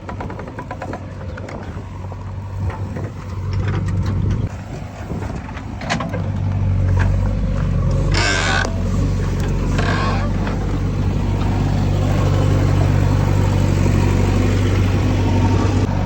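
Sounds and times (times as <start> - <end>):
heavy diesel engine humming: 0.0 - 16.0.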